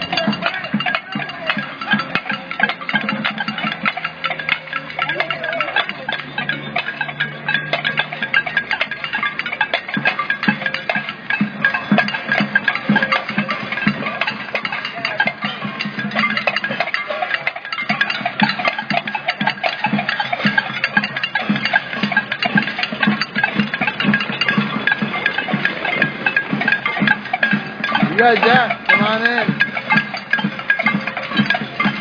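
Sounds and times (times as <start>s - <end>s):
crowd striking hand percussion: 0.0s - 32.0s.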